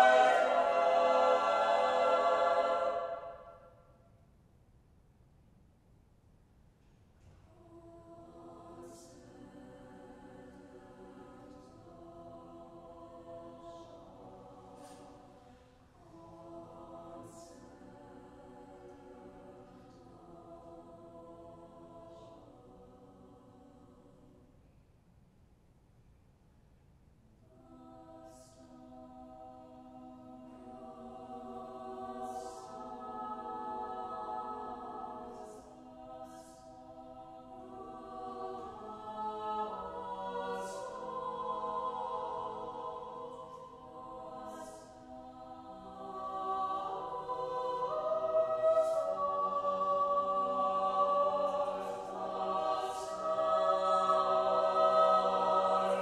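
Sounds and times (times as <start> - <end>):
choir singing a cappella: 0.0 - 4.0, 7.5 - 24.8, 27.4 - 56.0.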